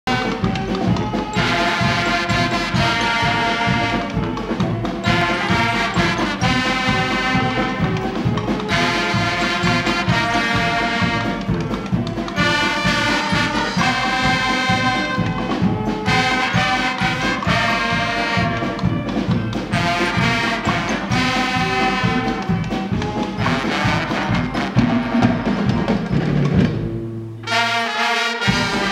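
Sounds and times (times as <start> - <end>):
carnival brass band playing: 0.0 - 28.9.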